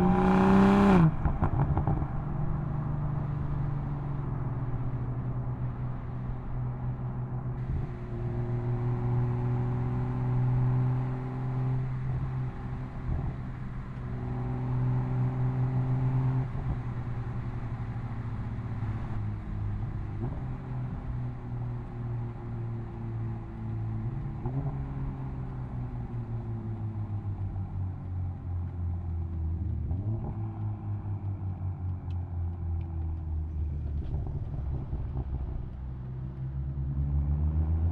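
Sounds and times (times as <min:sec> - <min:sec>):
car exhaust under light throttle: 0:00.0 - 0:37.9.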